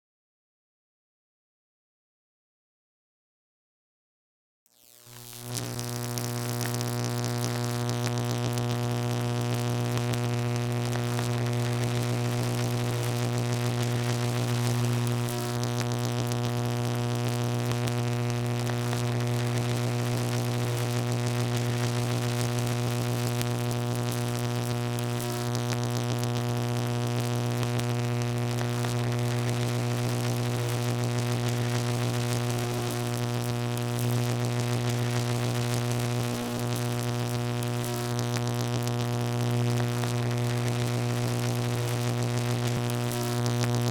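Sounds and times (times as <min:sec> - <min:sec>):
electrical buzz: 0:04.8 - 0:43.9.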